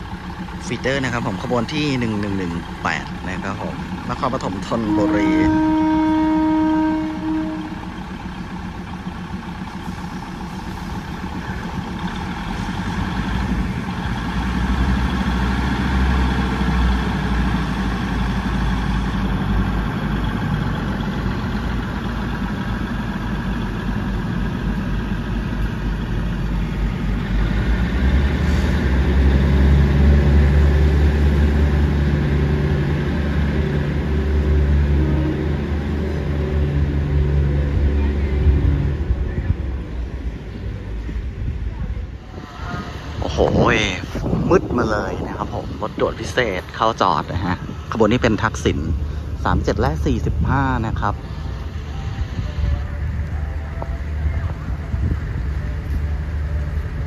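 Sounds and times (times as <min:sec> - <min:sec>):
diesel railcar engine rumble: 0:00.0 - 0:57.0.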